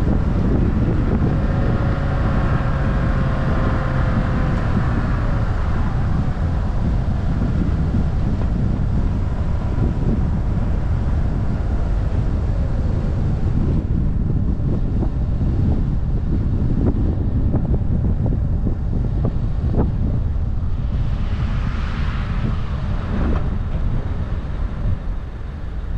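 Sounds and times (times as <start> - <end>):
faint engine whine: 0.0 - 25.9
low road and engine rumble: 0.0 - 25.9
wind buffeting camera: 0.0 - 25.9.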